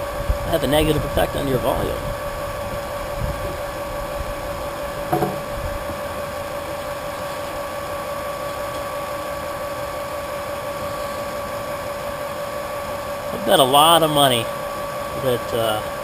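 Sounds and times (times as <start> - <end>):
electric pump whining: 0.0 - 16.0.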